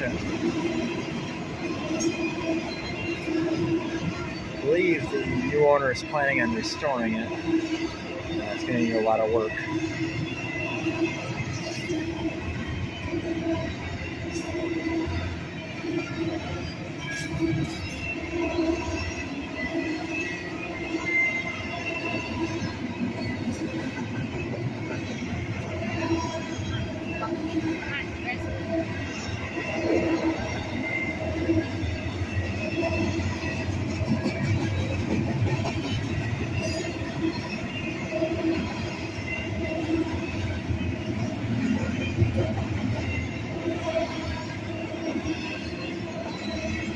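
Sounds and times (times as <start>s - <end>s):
high wheel squeals: 0.0s - 46.9s
train rumbling on rails: 0.0s - 46.9s.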